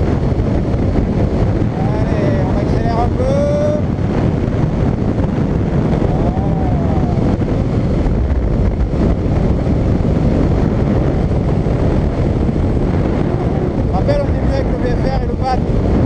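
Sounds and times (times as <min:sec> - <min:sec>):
motorcycle engine and tyres: 0:00.0 - 0:14.6
wind buffeting microphone: 0:00.0 - 0:16.0.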